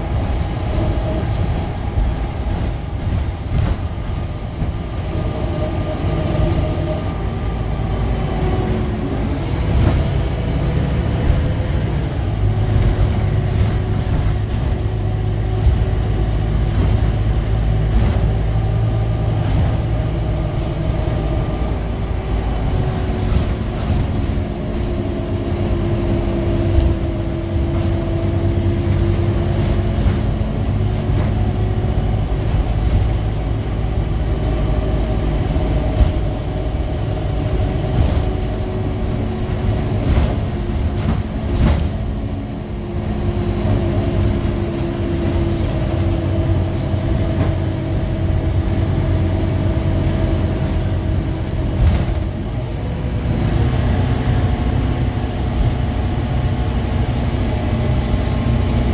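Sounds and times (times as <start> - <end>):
bus body rattles: 0.0 - 58.9
bus diesel engine drone: 0.0 - 58.9.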